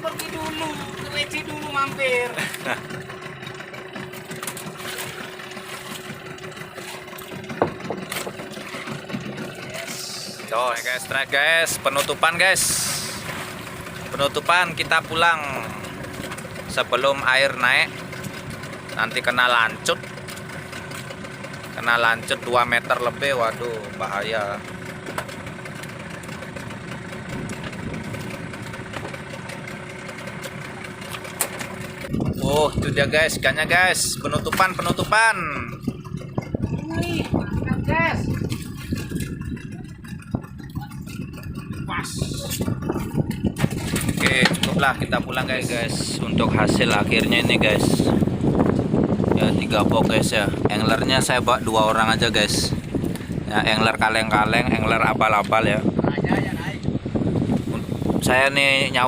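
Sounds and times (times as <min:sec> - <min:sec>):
boat motor humming: 0:00.0 - 0:59.0.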